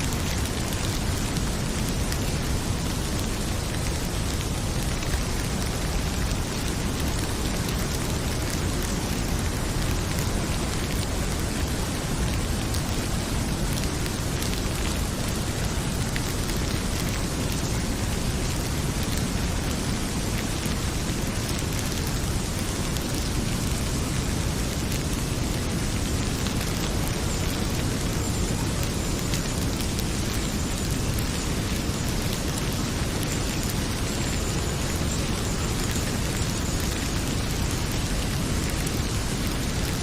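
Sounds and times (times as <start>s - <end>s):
fireplace crackling: 0.0s - 40.0s
heavy rain pouring: 0.0s - 40.0s.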